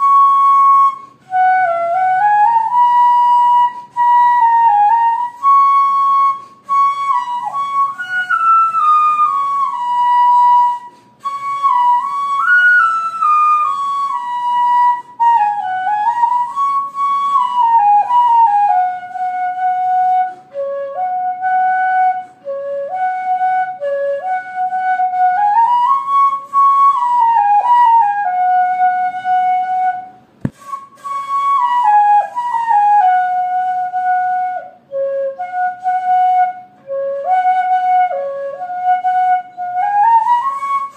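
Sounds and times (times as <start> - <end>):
solo flute melody: 0.0 - 40.9.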